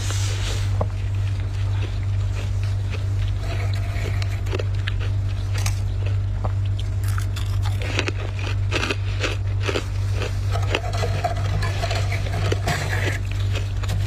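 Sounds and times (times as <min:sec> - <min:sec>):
steady low hum: 0:00.0 - 0:14.0
frost crunching when chewed: 0:00.1 - 0:14.0.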